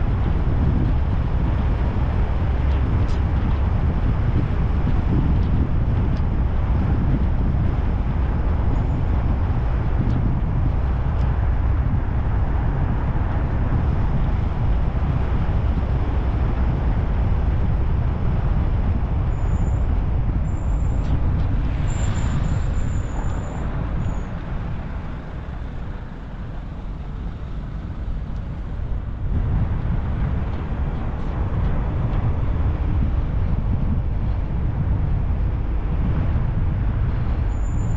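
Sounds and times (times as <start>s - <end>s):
car engine and tyres rumbling: 0.0s - 37.9s.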